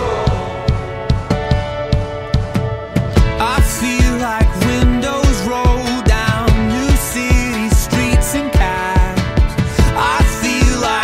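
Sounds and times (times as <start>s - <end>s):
kick drum beat: 0.0s - 11.0s
sustained instrumental chords: 0.0s - 11.0s.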